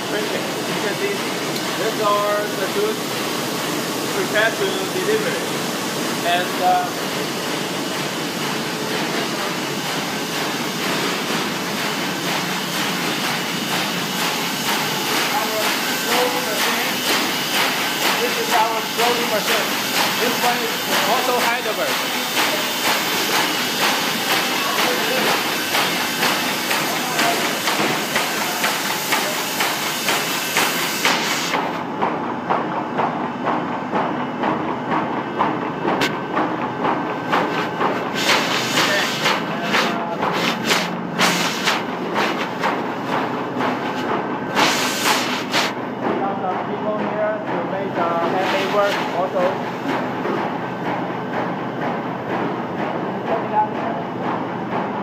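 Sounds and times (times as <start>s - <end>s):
printing machinery running: 0.0s - 55.0s.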